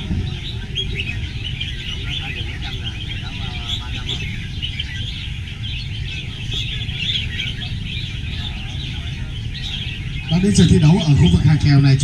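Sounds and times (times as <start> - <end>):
birds singing and chirping: 0.0 - 12.0.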